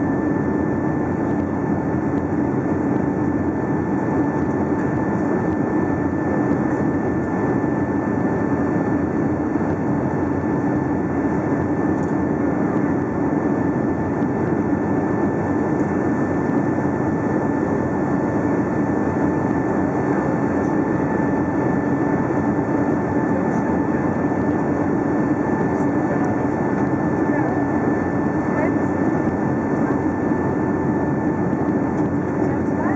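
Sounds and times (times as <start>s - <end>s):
jet engines roaring in cabin: 0.0s - 32.9s
thin steady whine: 0.0s - 32.9s.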